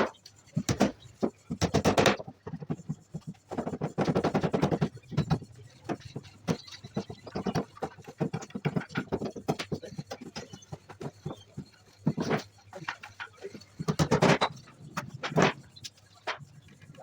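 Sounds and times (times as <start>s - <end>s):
sharp knocks and taps: 0.0s - 16.9s.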